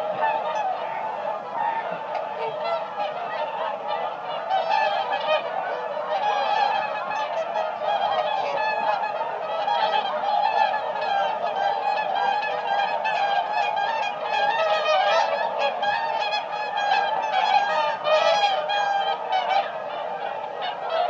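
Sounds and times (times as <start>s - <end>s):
flock of swans calling: 0.0s - 21.0s.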